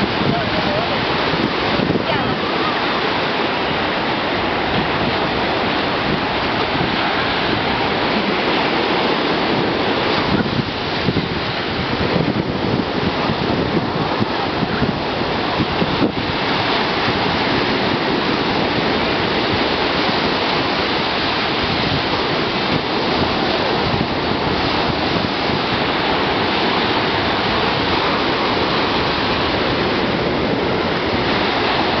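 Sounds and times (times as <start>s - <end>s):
ocean surf breaking on beach: 0.0s - 32.0s
wind buffeting microphone: 0.0s - 32.0s.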